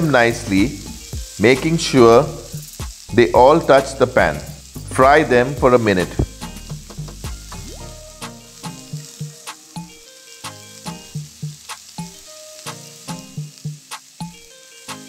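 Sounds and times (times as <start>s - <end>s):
background music with beat: 0.0s - 15.0s
prawns sizzling in oil: 0.0s - 15.0s.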